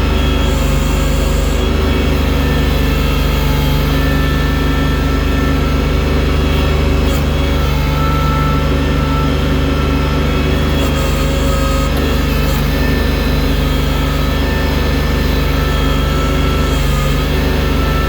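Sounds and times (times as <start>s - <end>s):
machine engine humming: 0.0s - 18.0s.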